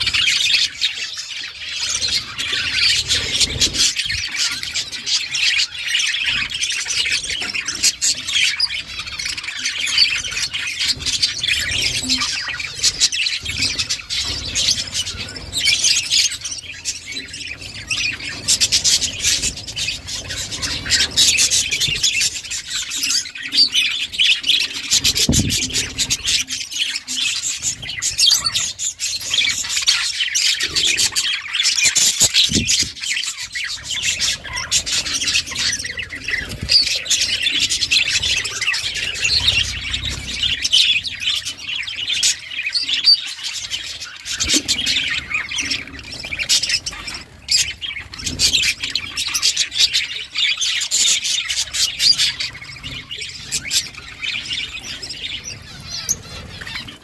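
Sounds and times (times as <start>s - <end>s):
budgerigars chirping and squawking: 0.0s - 57.0s.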